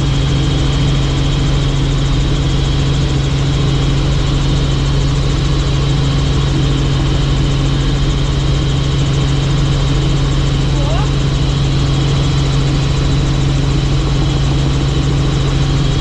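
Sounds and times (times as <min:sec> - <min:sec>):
helicopter drone: 0:00.0 - 0:16.0.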